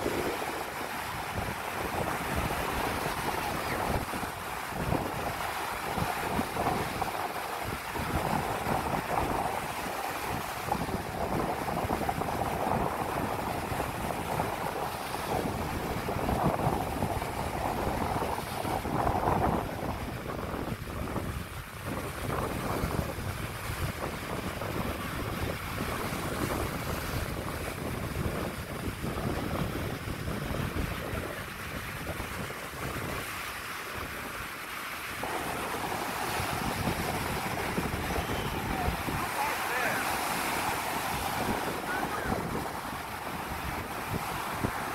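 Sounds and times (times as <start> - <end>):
surf washing over sand: 0.0 - 44.9
wind on microphone: 0.0 - 44.9.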